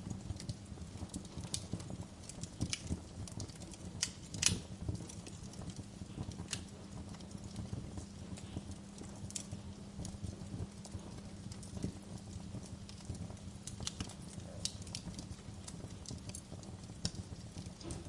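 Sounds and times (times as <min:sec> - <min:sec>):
low rumble of burning logs: 0:00.0 - 0:18.0
sharp pops of burning wood: 0:00.0 - 0:18.0
wood fire crackling: 0:00.0 - 0:18.0.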